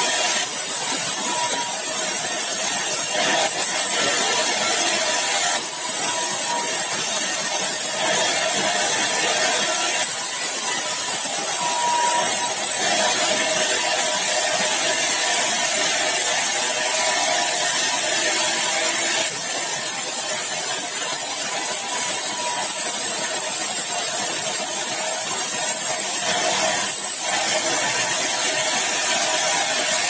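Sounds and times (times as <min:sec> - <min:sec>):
sawmill saw cutting log: 0:00.0 - 0:30.0.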